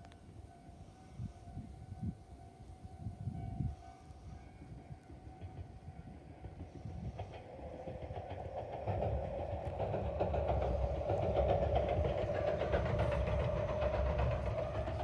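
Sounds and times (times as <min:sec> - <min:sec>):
train rumbling past: 0:00.0 - 0:15.0
train whine: 0:00.0 - 0:15.0.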